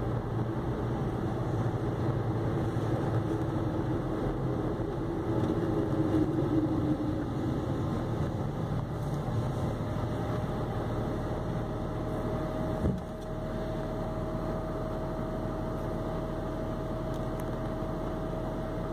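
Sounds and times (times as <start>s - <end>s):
car engine and drivetrain noise: 0.0s - 18.9s
car engine idling hum: 0.0s - 18.9s.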